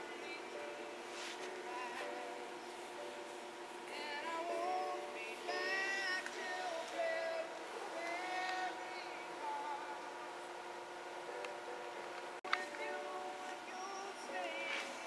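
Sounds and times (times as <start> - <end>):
high singing voice: 0.0 - 10.4, 12.4 - 15.0
sustained musical backing: 0.0 - 15.0.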